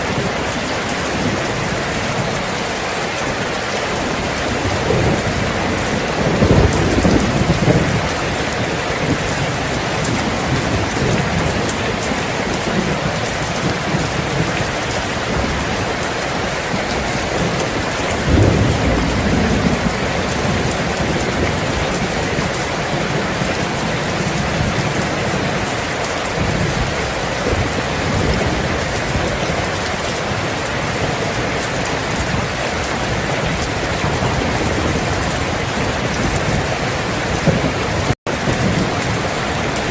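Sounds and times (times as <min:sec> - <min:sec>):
heavy rain: 0:00.0 - 0:39.9
thunder rolling: 0:03.2 - 0:25.7, 0:26.3 - 0:39.9.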